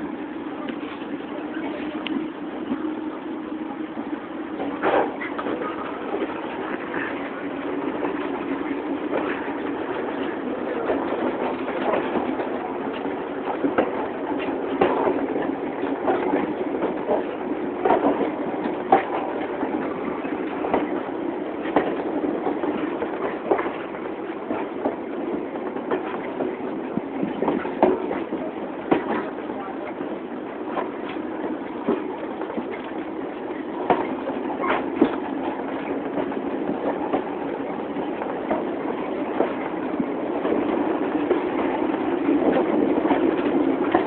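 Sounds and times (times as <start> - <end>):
train wheels rumbling on rails: 0.0 - 44.0
train wheels clicking and clanking: 4.5 - 44.0.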